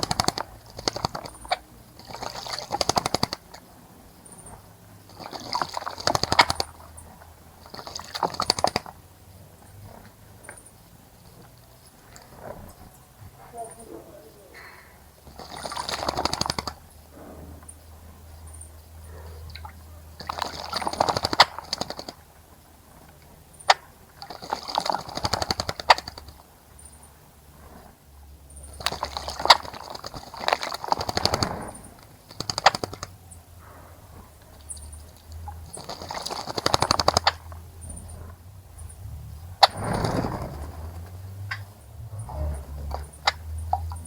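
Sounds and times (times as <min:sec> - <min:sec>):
bird splashing in birdbath: 0:00.0 - 0:28.1, 0:28.7 - 0:44.0.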